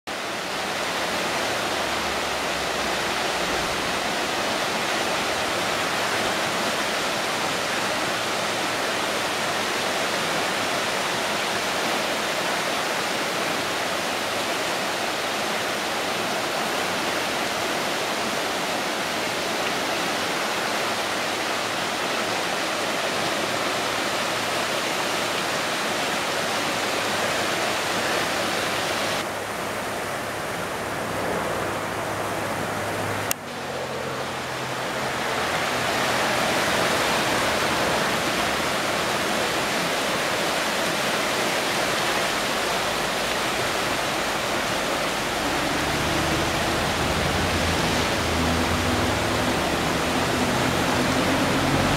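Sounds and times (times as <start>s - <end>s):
flooded creek water rushing: 0.0s - 51.9s.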